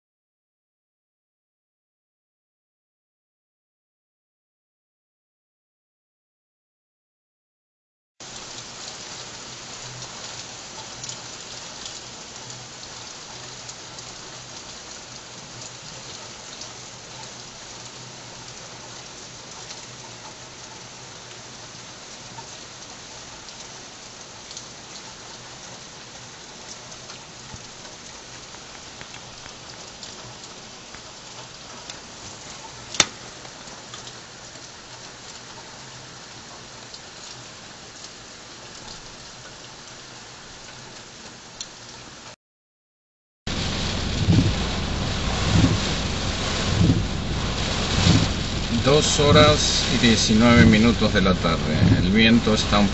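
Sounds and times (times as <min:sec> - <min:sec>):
heavy rain falling: 0:08.2 - 0:42.4, 0:43.5 - 0:52.9.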